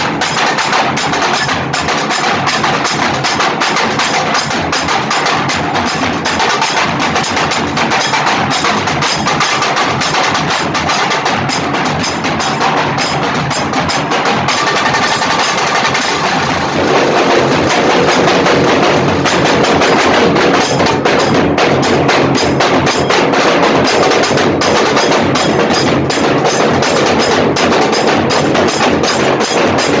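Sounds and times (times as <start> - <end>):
drums playing fast rhythm: 0.0 - 30.0.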